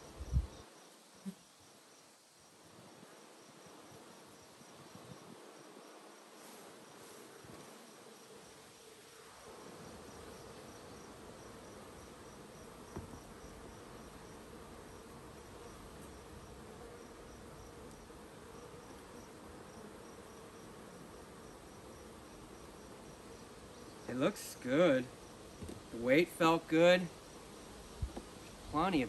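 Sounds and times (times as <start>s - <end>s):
honeybees buzzing: 2.6s - 29.0s.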